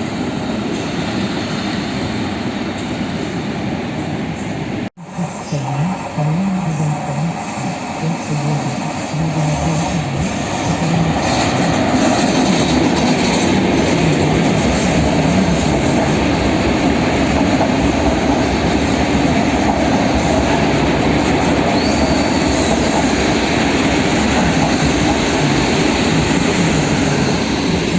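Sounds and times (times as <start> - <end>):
passenger train running past: 0.0 - 27.9.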